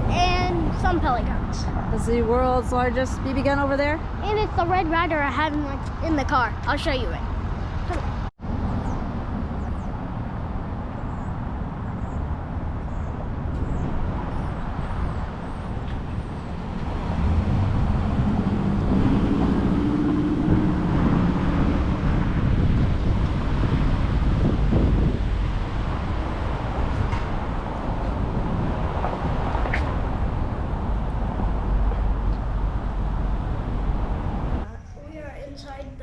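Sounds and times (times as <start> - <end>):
vehicle engine: 0.0 - 35.5
road traffic noise: 0.0 - 36.0.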